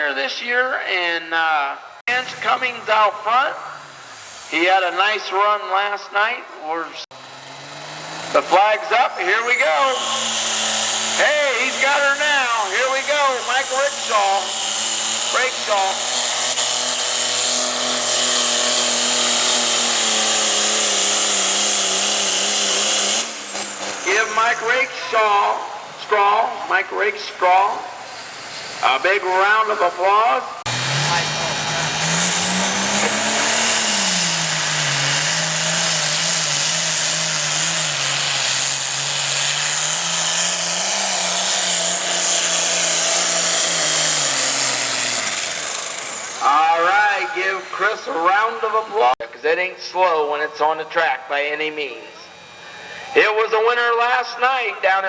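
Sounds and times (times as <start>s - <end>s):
tractor engine at full power: 1.8s - 55.0s.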